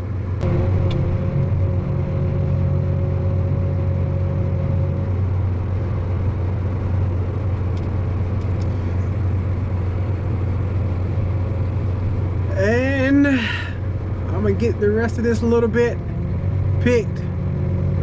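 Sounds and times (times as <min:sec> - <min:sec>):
tractor and combine droning: 0:00.0 - 0:18.0.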